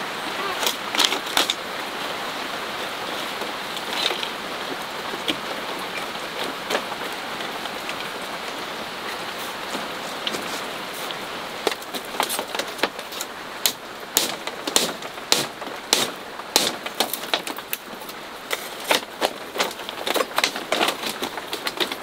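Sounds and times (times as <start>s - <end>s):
rain hissing: 0.0s - 22.0s.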